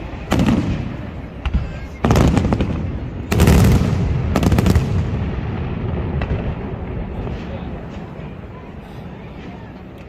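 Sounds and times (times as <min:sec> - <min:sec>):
fireworks bangs and crackle: 0:00.0 - 0:10.0.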